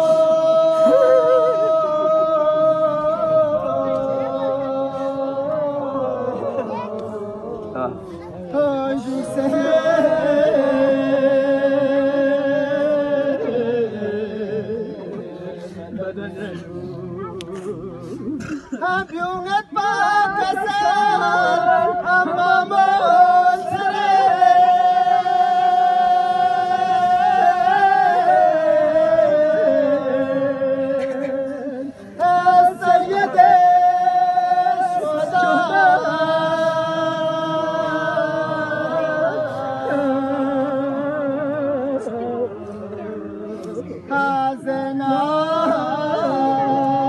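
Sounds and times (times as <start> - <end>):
man chanting unaccompanied: 0.0 - 47.0.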